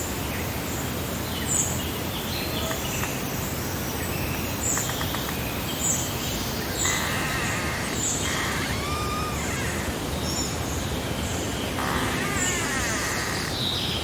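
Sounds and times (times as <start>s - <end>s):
breeze hiss: 0.0s - 14.0s
small birds chirping: 1.3s - 14.0s.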